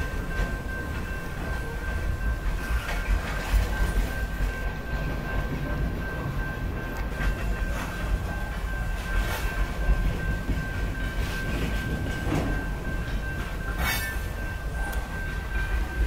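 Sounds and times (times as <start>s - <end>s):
freight train rumbling: 0.0s - 16.0s
wheels clacking over rail joints: 0.0s - 16.0s.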